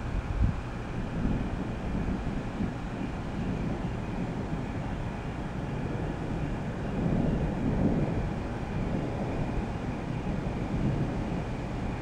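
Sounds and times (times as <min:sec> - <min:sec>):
thunder rumbling: 0:00.0 - 0:12.0.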